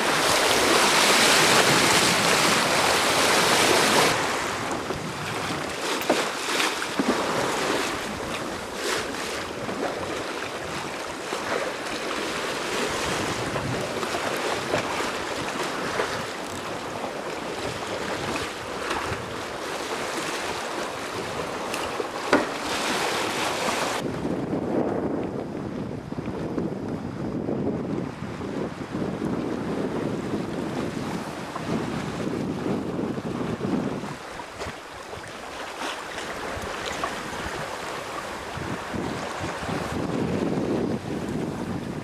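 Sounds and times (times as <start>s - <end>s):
wind buffeting microphone: 0.0s - 35.5s, 36.1s - 42.0s
water rushing along hull: 0.0s - 42.0s.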